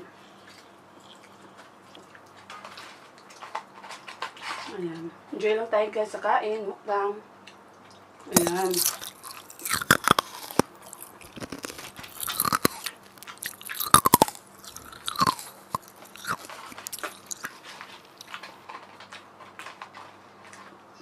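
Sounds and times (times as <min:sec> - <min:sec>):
chewing fries with mouth clicks: 0:00.1 - 0:04.7, 0:07.4 - 0:20.9.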